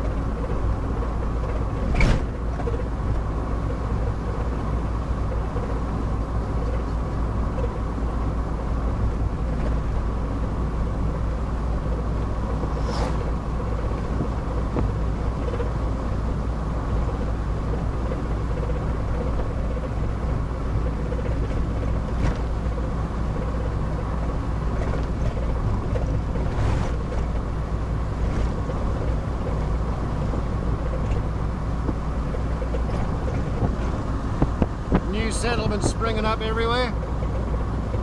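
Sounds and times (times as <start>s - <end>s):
engine and road rumble in car: 0.0s - 38.0s.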